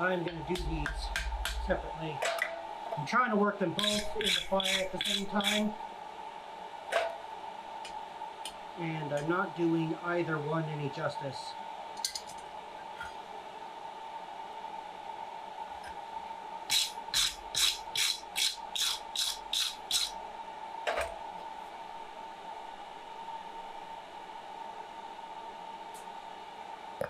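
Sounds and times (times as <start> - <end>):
forge blower humming: 0.0 - 27.0.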